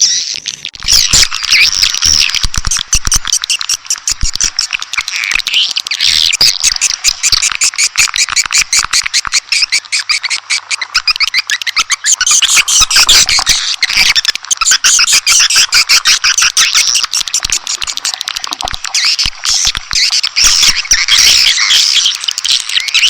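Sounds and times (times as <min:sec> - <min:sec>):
swiftlets chirping and twittering: 0:00.0 - 0:23.0.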